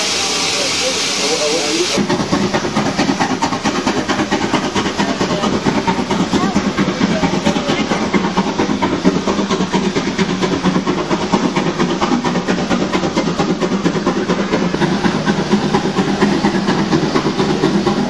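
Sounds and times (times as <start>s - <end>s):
steam train wheels clattering: 0.0s - 18.0s.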